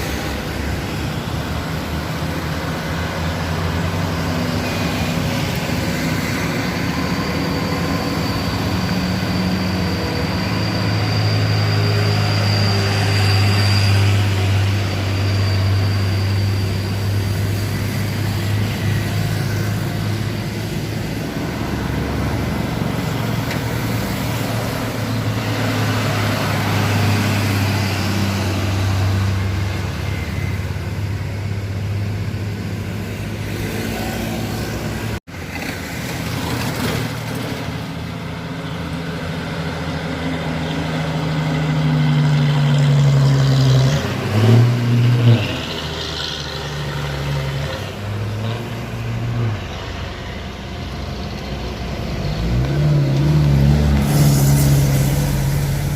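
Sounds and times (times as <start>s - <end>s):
engine revving surges: 0.0s - 37.8s, 39.2s - 55.9s
truck engine straining uphill: 0.0s - 55.9s.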